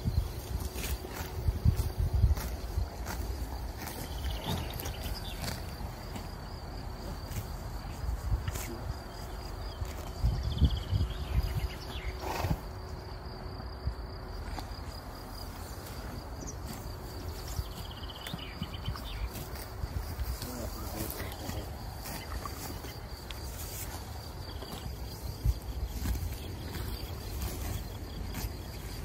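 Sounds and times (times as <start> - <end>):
horses chewing grass: 0.0 - 29.0
insects chirping: 0.0 - 29.0.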